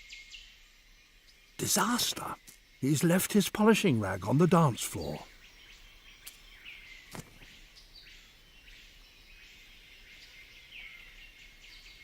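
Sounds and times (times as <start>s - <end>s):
high buzzing insect calls: 0.0s - 12.0s.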